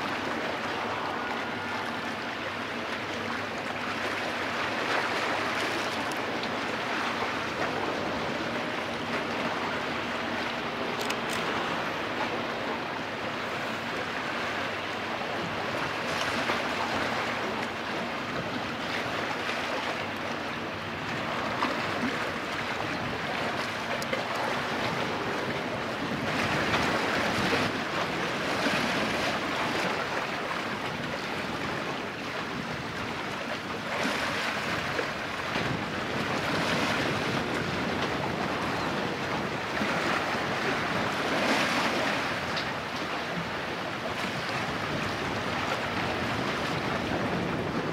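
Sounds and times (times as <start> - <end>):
sea waves breaking: 0.0 - 47.9.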